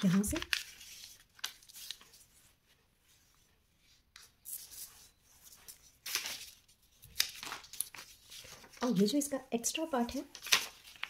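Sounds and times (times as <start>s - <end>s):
paper rustling and rubbing: 0.0s - 9.3s, 10.3s - 11.0s.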